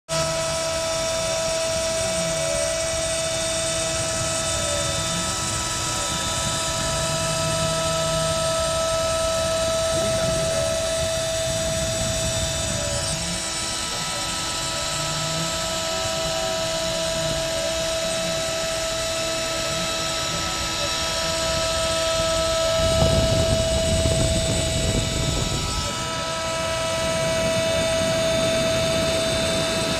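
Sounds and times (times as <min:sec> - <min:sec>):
axis motors changing pitch: 0:00.1 - 0:29.9
cutter milling noise: 0:00.1 - 0:29.9
router spindle whine: 0:00.1 - 0:29.9.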